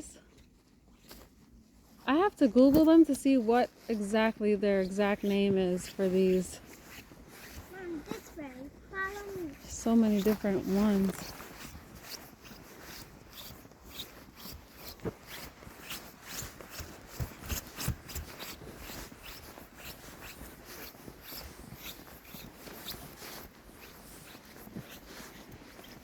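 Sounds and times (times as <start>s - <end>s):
footsteps crunching through snow: 0.0s - 26.0s.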